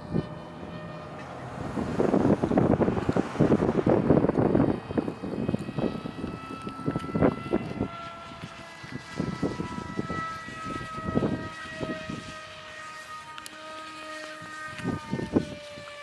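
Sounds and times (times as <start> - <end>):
model plane motor whining: 0.0 - 16.0
wind buffeting microphone: 0.0 - 16.0.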